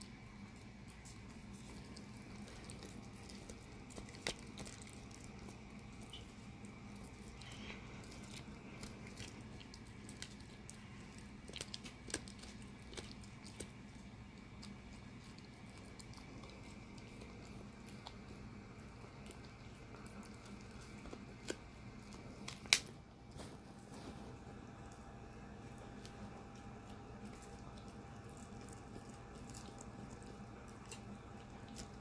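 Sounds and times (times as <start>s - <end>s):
dog gnawing a chew: 0.0s - 32.0s
faint steady hum: 0.0s - 32.0s.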